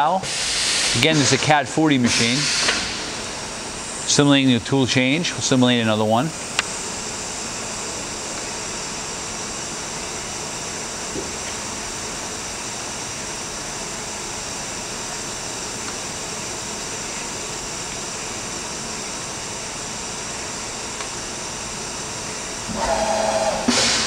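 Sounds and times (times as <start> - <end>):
machine whirring hiss: 0.0 - 24.0.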